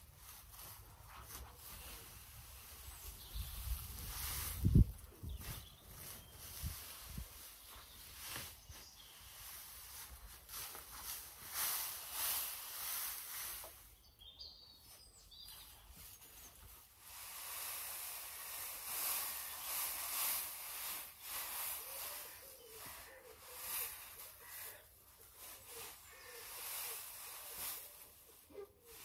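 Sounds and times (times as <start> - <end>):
dry straw rustling and crackling: 0.0 - 14.0, 14.8 - 29.0.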